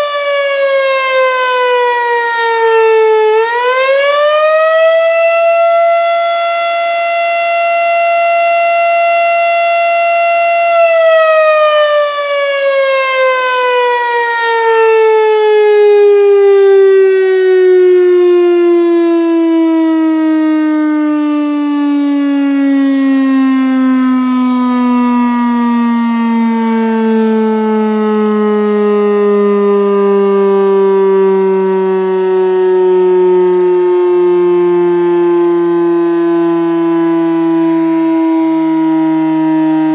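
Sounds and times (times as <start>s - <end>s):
mechanical warning siren: 0.0s - 39.9s.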